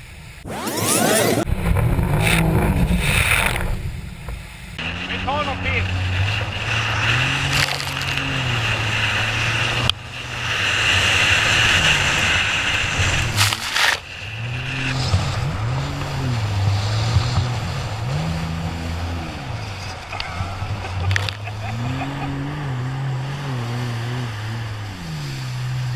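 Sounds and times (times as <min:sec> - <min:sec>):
jet ski engine revving: 0:00.4 - 0:25.9.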